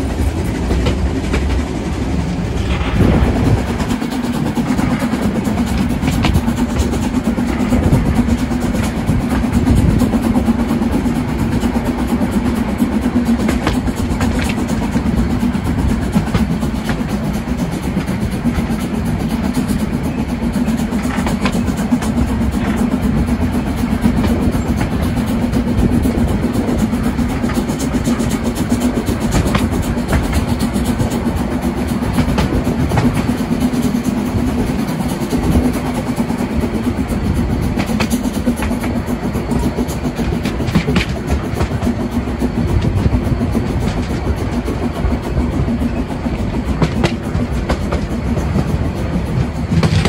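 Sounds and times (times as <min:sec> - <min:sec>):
train rumbling on track: 0:00.0 - 0:50.0
train wheel clicks: 0:00.0 - 0:50.0.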